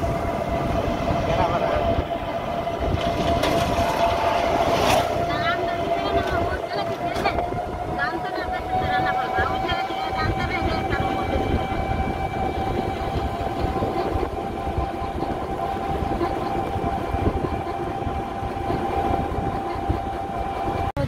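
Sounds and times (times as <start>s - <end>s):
electric motor whine: 0.0s - 21.0s
road rumble and body rattle: 0.0s - 21.0s.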